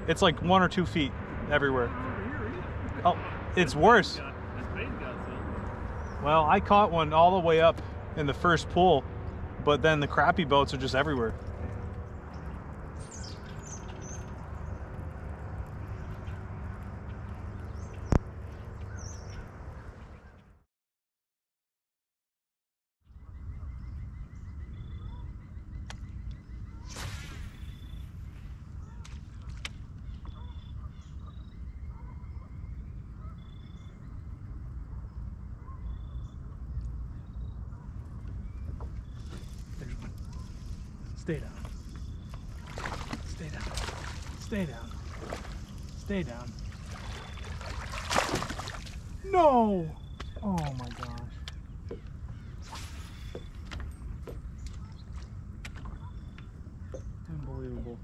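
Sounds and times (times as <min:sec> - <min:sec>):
birds chirping: 0:00.0 - 0:20.6, 0:23.2 - 0:58.0.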